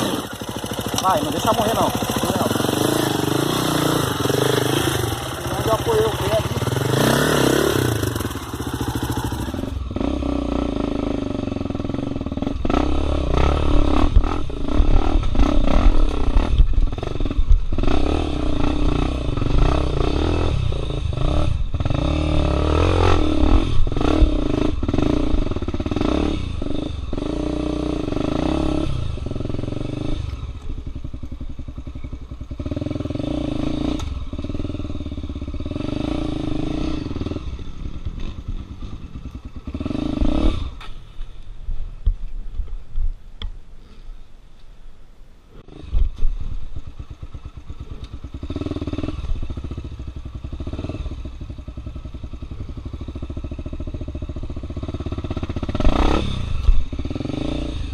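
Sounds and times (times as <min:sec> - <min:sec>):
dirt bike engine revving: 0:00.0 - 0:30.6, 0:32.4 - 0:40.9, 0:45.6 - 0:57.9.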